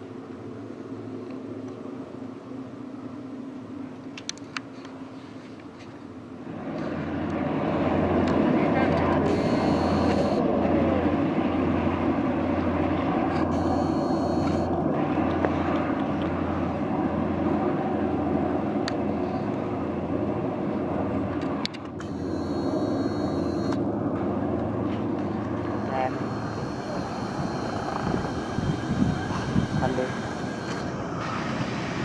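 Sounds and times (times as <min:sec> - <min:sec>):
diesel train engine drone: 0:00.0 - 0:32.0.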